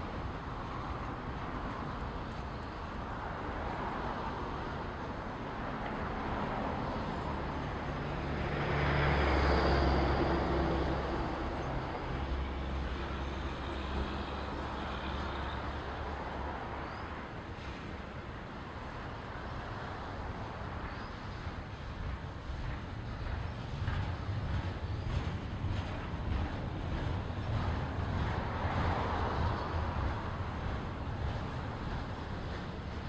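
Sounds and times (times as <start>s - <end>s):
freight cars rolling past: 0.0s - 33.0s.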